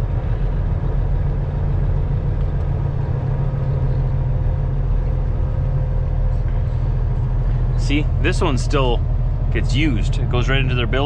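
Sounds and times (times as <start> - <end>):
diesel truck engine drone: 0.0 - 11.0.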